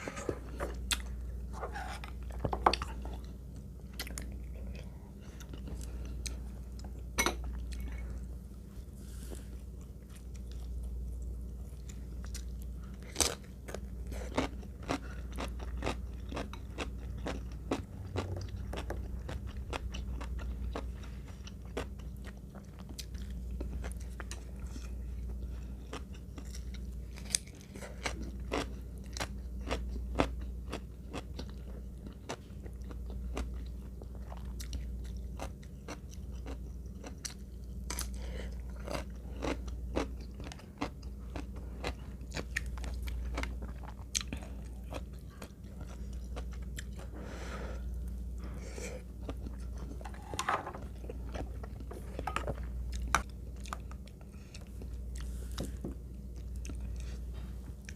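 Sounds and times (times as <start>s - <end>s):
steady low hum: 0.0s - 57.9s
person chewing and crunching food: 0.1s - 57.9s.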